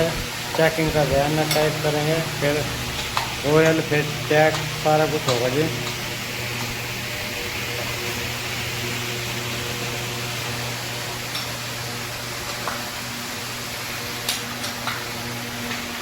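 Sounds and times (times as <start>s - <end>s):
steady hum and hiss: 0.0s - 16.0s.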